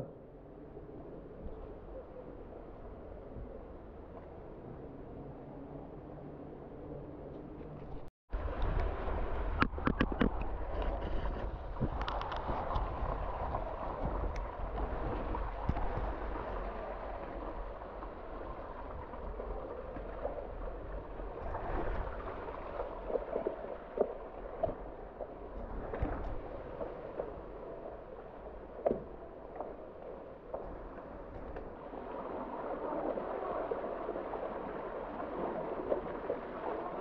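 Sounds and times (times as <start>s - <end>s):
low rumble: 0.0s - 36.6s.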